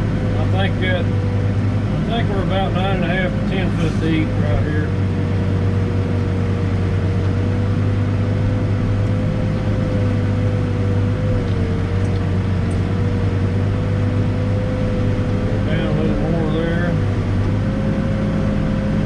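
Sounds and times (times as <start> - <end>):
backhoe diesel engine: 0.0 - 19.0
higher whine: 0.0 - 19.0.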